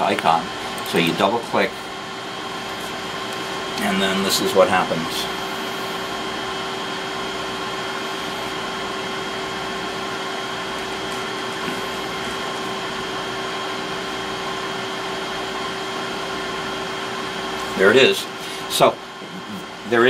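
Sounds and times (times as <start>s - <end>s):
equipment fans whirring: 0.0s - 20.0s.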